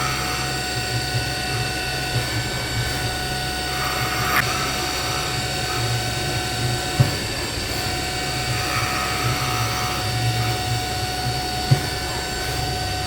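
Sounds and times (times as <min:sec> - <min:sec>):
cnc spindle whine: 0:00.0 - 0:13.0
low motor hum: 0:00.0 - 0:13.0.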